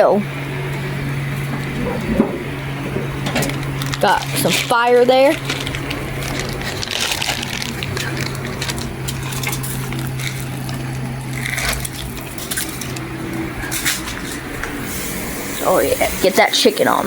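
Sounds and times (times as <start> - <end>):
steady low hum: 0.0 - 17.0
grill fire crackling: 0.2 - 17.0.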